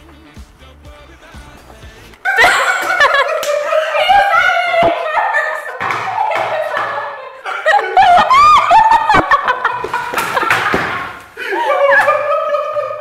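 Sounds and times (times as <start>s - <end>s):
people laughing: 2.2s - 13.0s.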